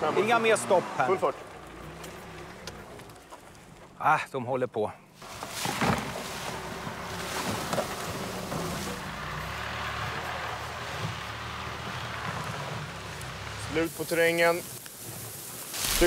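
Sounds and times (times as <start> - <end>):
car engine under load: 0.0 - 4.0, 5.2 - 16.0.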